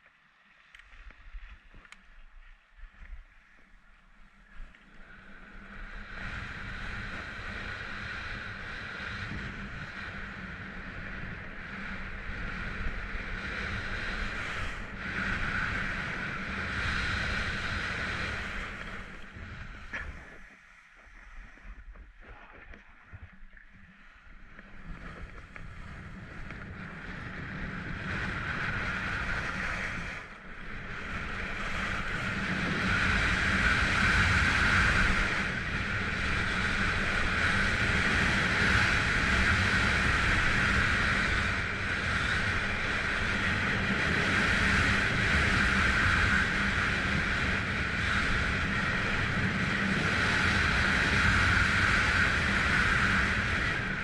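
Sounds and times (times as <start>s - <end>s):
wind on microphone: 0.7s - 54.0s.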